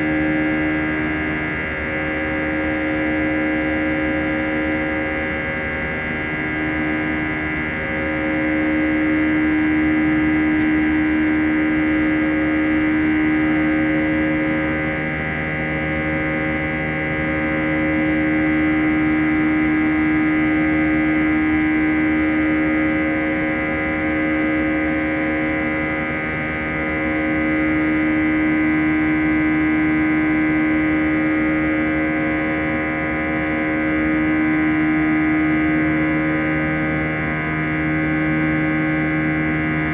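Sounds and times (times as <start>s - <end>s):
jet engines buzzing in cabin: 0.0s - 39.9s.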